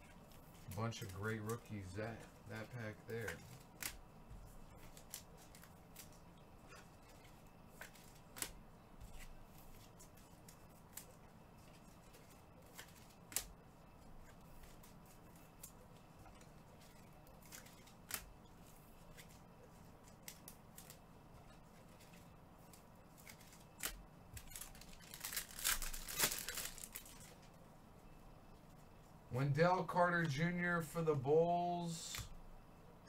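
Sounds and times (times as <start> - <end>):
faint steady hum: 0.0 - 33.0
trading cards rustling: 0.1 - 27.6.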